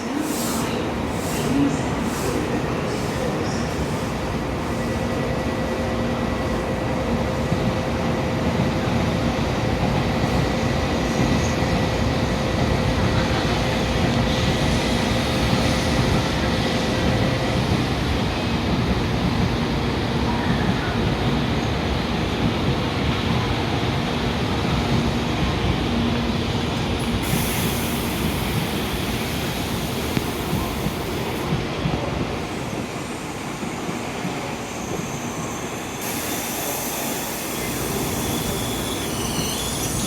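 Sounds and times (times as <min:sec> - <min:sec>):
train rolling rush: 0:00.0 - 0:40.0.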